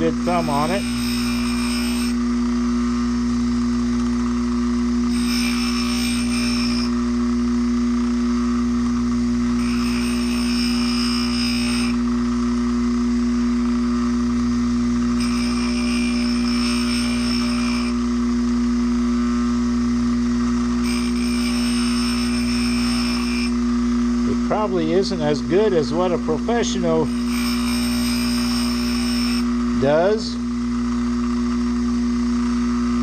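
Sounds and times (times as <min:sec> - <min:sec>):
grinding wheel motor hum: 0:00.0 - 0:33.0.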